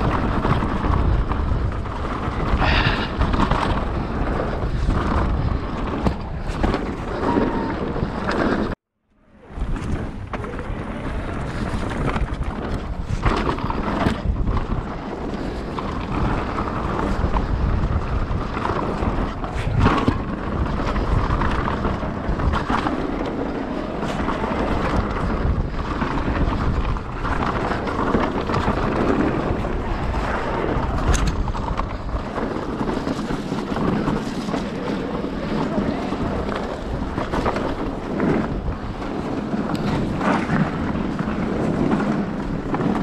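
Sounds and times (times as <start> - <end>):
bike rattling over bumps: 0.0 - 43.0
bike tyre roar on dirt: 0.0 - 43.0
wind buffeting microphone: 0.0 - 43.0.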